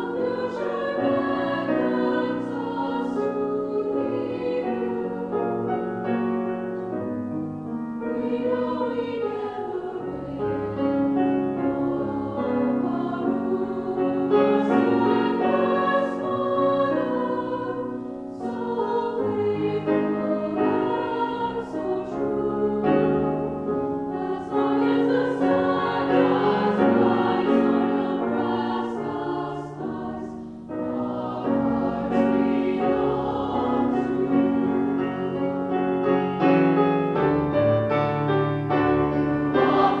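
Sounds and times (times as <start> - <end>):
mixed choir singing: 0.0 - 7.2, 8.0 - 37.3, 38.7 - 40.0
grand piano: 0.0 - 40.0.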